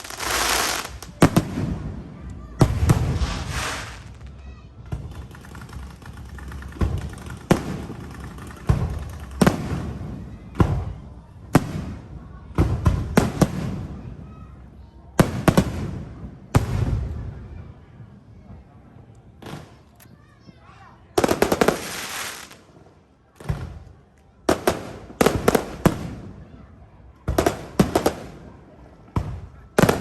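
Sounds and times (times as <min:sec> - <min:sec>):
fireworks banging and crackling: 0:00.0 - 0:30.0.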